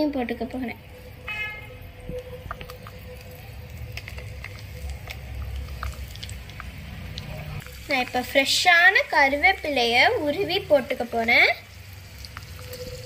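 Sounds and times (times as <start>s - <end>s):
garlic sizzling in hot oil: 0.4s - 13.0s.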